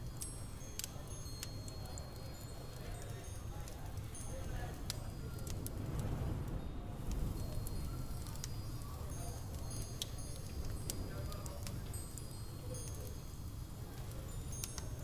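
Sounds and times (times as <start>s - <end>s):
high chime-like tinkles: 0.0s - 5.7s, 6.5s - 15.0s
small crackling clicks: 0.0s - 6.2s, 7.0s - 8.6s, 9.4s - 13.2s, 14.0s - 15.0s.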